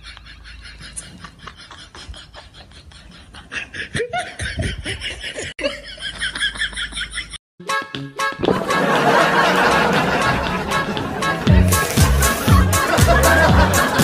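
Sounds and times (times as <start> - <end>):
person laughing: 0.0 - 7.4, 8.5 - 14.0.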